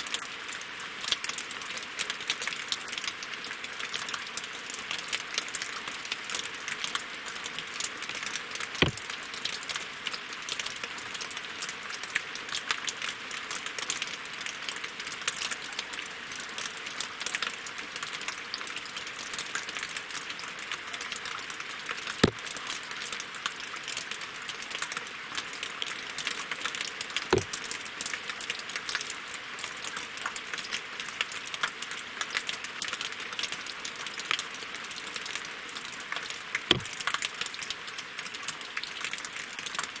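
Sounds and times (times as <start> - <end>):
rain pattering on water and logs: 0.0 - 40.0.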